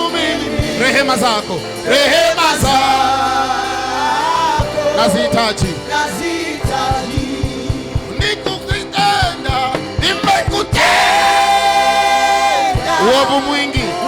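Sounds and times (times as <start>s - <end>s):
band accompaniment: 0.0s - 14.0s
person singing worship song: 0.0s - 14.0s
steady drum beat: 0.0s - 14.0s.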